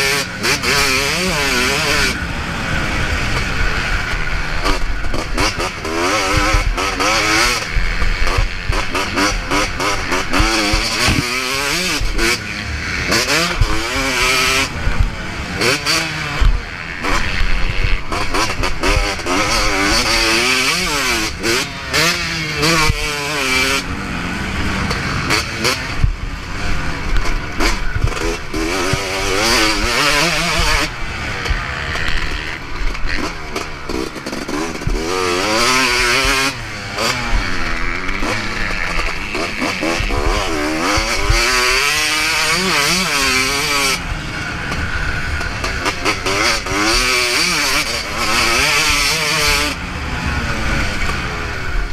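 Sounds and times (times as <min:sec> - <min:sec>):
motocross bike engine revving: 0:00.0 - 0:51.9
rushing noise: 0:00.0 - 0:51.9.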